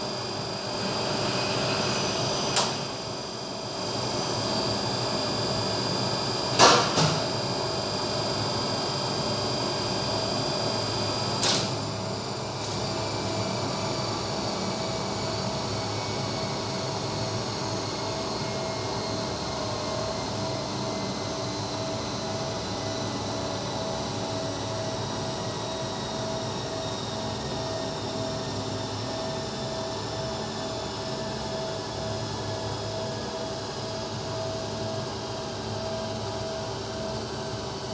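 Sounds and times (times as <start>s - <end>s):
motor-generator hum and whine: 0.0s - 37.9s.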